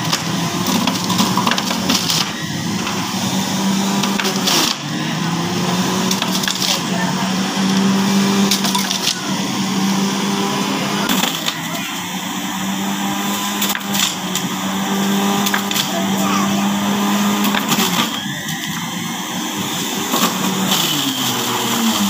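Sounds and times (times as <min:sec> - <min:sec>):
juicer motor humming: 0:00.0 - 0:22.0
vegetables crunching in juicer: 0:00.0 - 0:22.0.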